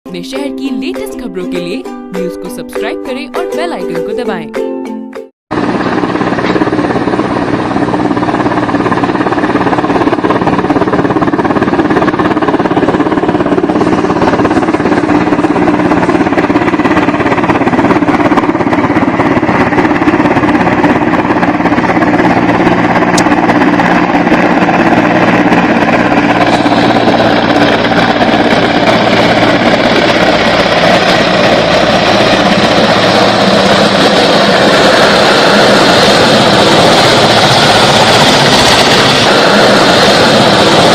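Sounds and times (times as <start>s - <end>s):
helicopter engines and rotor: 5.5s - 40.9s.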